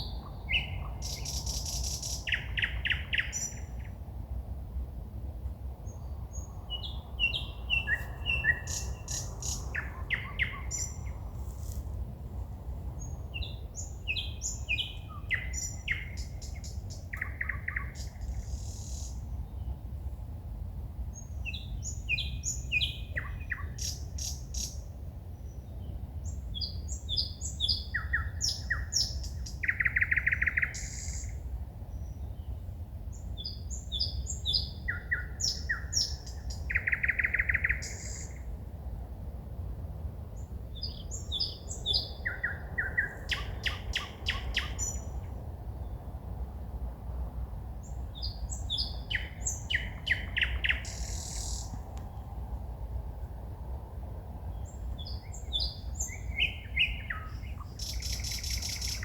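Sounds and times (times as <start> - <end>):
songbird singing: 0.0 - 4.0, 5.8 - 20.2, 21.0 - 38.6, 40.2 - 59.0.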